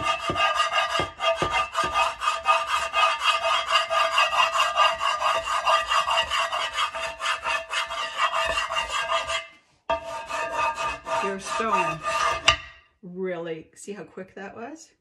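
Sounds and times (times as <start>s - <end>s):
plastic scraper rasping on pan: 0.0s - 12.8s.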